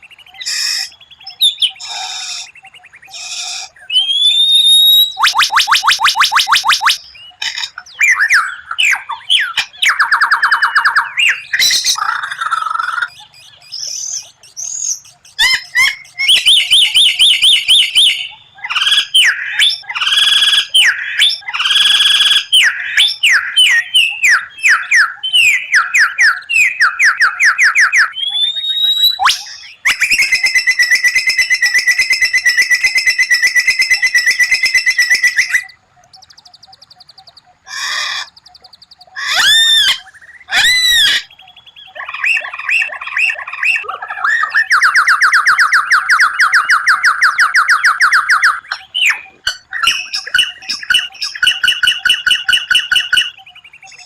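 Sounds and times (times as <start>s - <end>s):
songbird singing trills and whistles: 0.0s - 54.0s.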